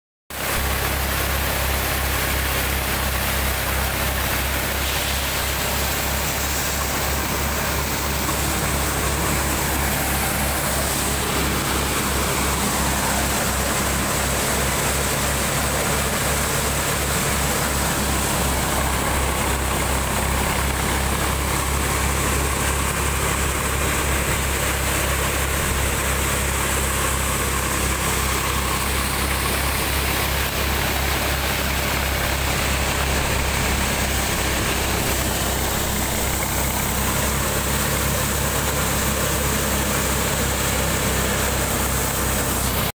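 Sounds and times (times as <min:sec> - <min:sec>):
threshing drum hiss: 0:00.3 - 0:42.9
tractor engine rumble: 0:00.3 - 0:42.9.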